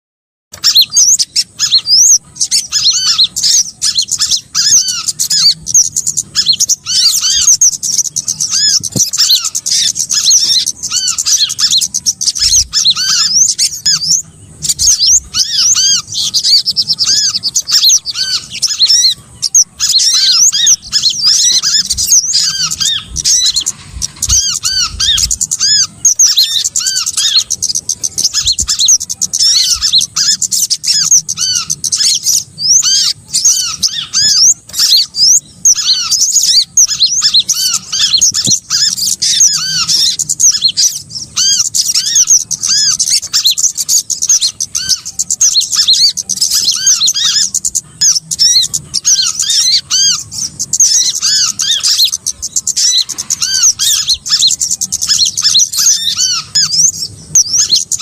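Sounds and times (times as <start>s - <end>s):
songbirds chirping: 0.5s - 58.0s.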